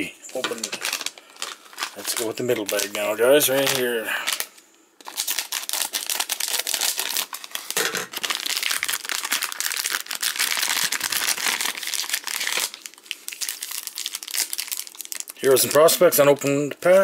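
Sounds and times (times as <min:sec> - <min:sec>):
plastic bag crinkling: 0:00.3 - 0:16.2.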